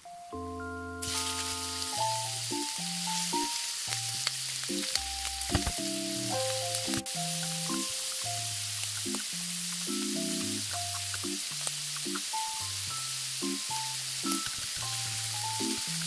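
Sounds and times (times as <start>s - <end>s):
food sizzling in a frying pan: 1.0s - 16.0s.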